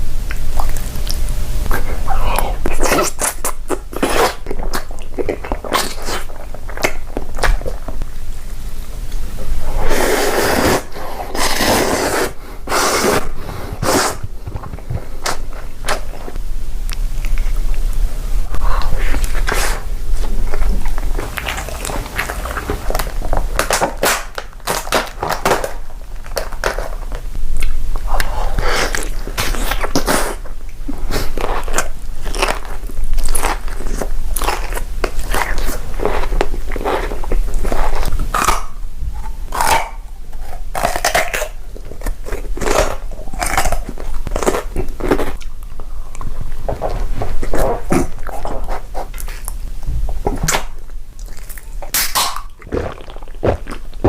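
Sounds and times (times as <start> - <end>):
low steady hum: 0.0 - 54.0
person chewing crunchy food: 0.0 - 54.0.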